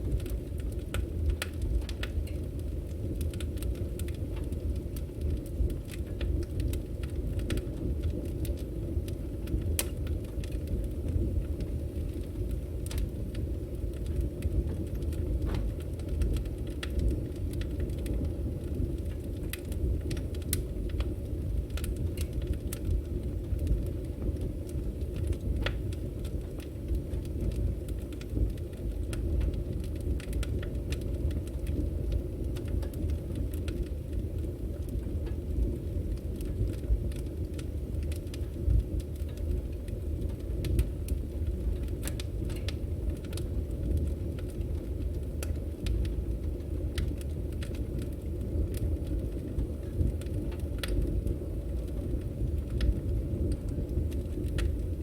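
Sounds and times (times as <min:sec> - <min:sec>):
firewood burning with crackles: 0:00.0 - 0:55.0.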